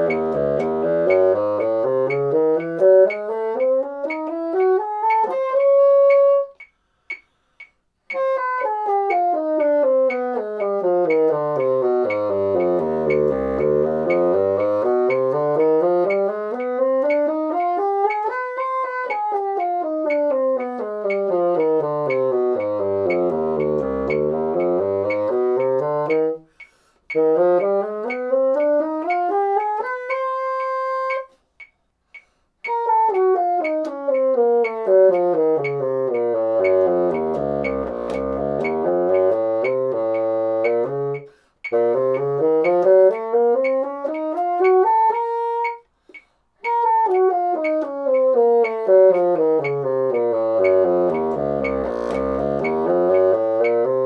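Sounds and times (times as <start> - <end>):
bassoon playing scales: 0.0 - 7.3, 8.1 - 31.4, 32.6 - 54.0
metronome clicking: 0.0 - 54.0.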